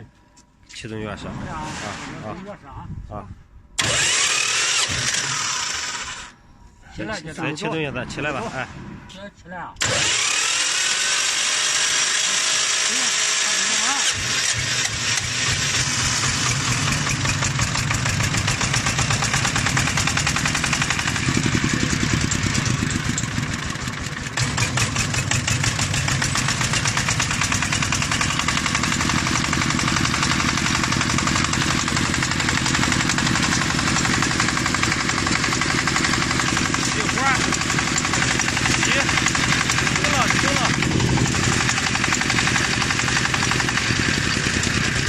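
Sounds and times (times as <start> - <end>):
diesel engine cranking and running: 3.8 - 6.4, 9.8 - 45.0.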